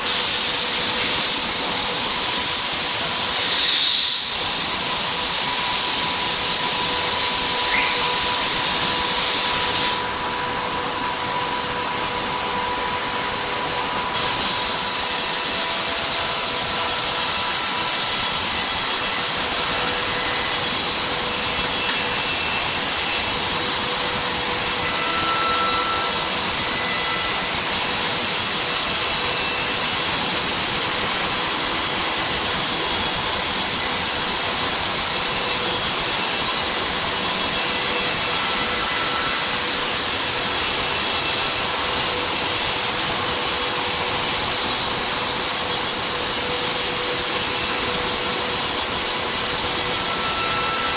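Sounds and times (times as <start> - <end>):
machine loud high hiss: 0.0 - 50.9.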